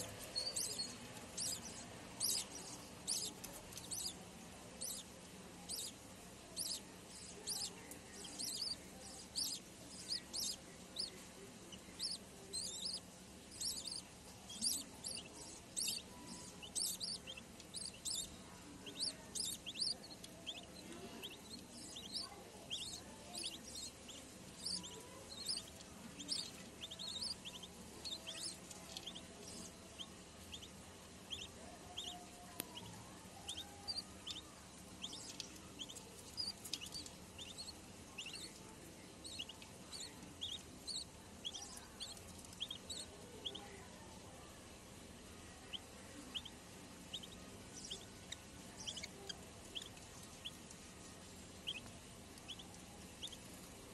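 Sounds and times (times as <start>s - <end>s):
chicks cheeping: 0.0s - 43.8s, 45.6s - 53.9s
faint hum: 0.0s - 53.9s.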